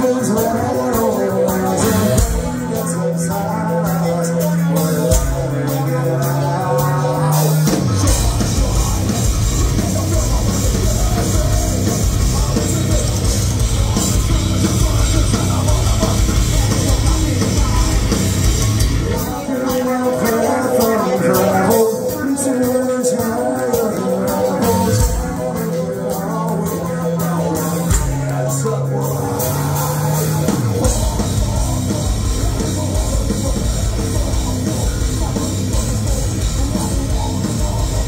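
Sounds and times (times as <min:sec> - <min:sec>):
heavy metal band playing: 0:00.0 - 0:38.0.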